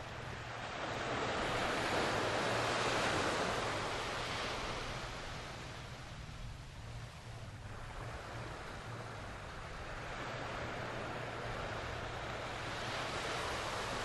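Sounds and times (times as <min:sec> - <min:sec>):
ocean surf breaking on beach: 0:00.0 - 0:05.8, 0:07.8 - 0:14.0.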